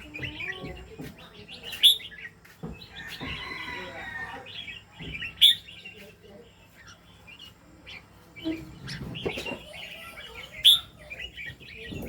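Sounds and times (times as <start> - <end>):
songbird chirping and warbling: 0.0 - 12.0.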